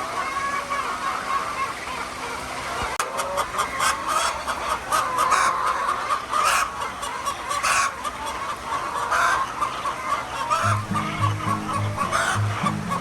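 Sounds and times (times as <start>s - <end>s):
hens clucking: 0.2s - 13.0s.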